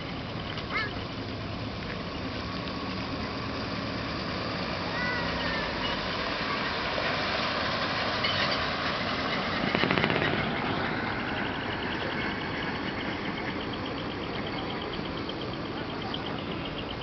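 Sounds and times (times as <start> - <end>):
diesel truck driving past: 0.0 - 17.0.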